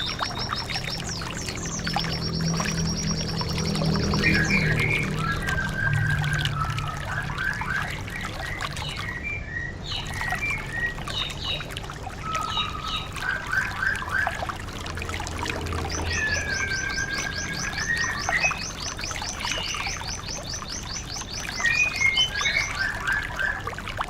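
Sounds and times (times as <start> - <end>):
bird chirping and whistling: 0.0 - 11.6, 12.2 - 14.4, 15.9 - 19.9, 21.5 - 23.6
running water trickling: 0.0 - 24.0.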